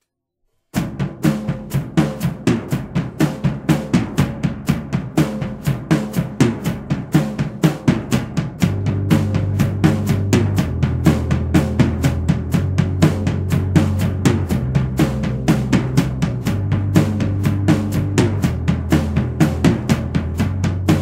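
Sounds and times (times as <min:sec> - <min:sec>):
fast drum kit beat: 0:00.7 - 0:21.0.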